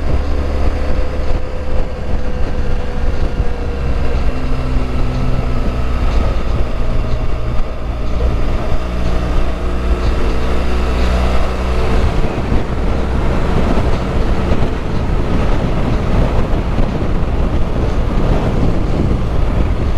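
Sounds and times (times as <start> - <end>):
motorcycle engine running: 0.0 - 19.9
wind rushing over microphone: 0.0 - 19.9.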